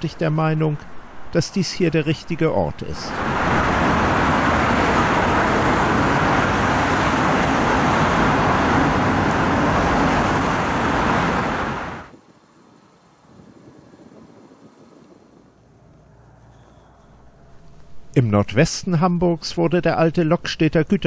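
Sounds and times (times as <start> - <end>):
loud motorway traffic: 0.0 - 12.3, 12.9 - 18.2.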